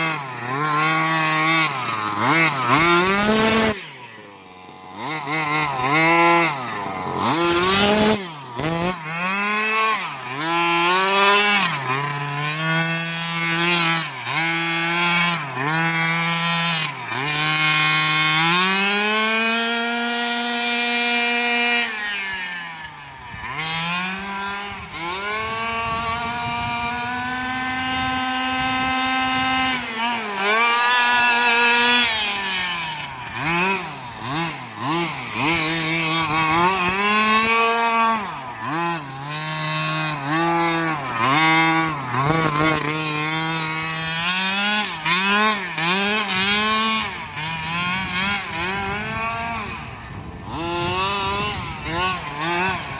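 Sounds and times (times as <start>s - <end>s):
small two-stroke engine revving: 0.0s - 52.9s.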